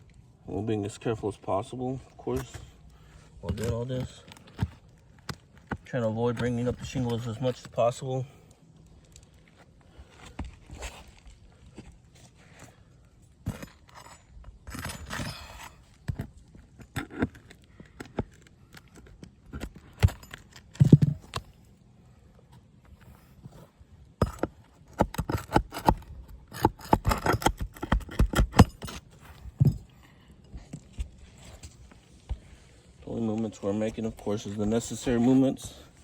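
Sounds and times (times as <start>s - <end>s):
pry bar scraping shingle: 0.8s - 8.2s, 8.8s - 21.7s, 22.3s - 36.0s.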